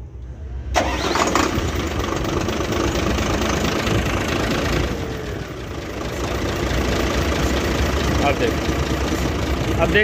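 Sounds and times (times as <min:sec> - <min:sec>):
diesel truck engine idling: 0:00.7 - 0:10.0.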